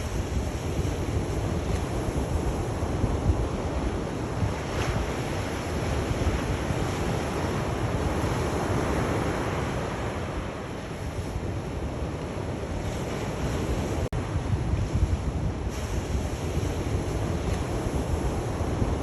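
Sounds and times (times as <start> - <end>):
sea waves washing on shore: 0.0 - 19.0
wind rumble on microphone: 0.0 - 19.0.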